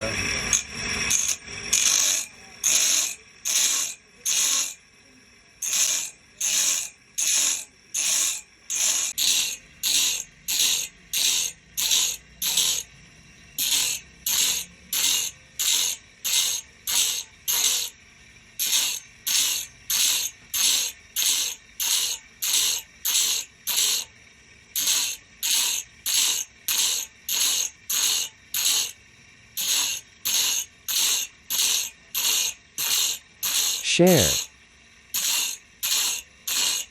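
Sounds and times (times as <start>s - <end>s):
file rasping saw teeth: 0.0s - 4.8s, 5.6s - 12.9s, 13.6s - 18.0s, 18.6s - 24.1s, 24.7s - 29.0s, 29.6s - 34.5s, 35.1s - 36.9s.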